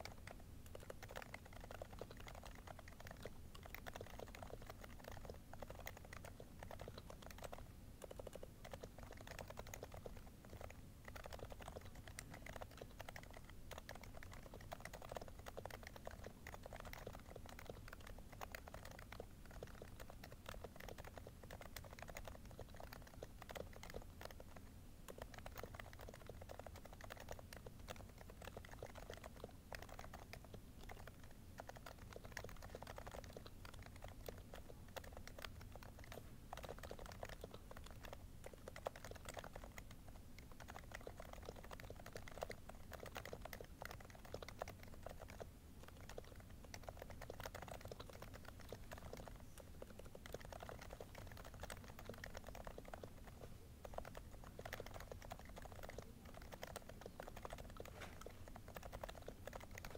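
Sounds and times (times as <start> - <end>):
dampened keyboard keystrokes: 0.0 - 59.9
faint room hiss: 0.0 - 59.9.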